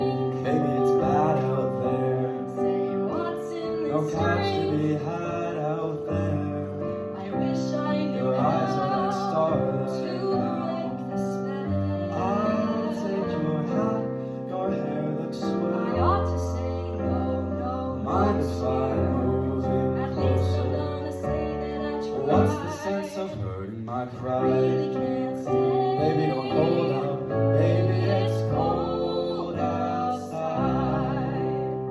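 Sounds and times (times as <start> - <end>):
piano accompaniment: 0.0 - 31.9
woman and man singing a duet: 0.0 - 31.9.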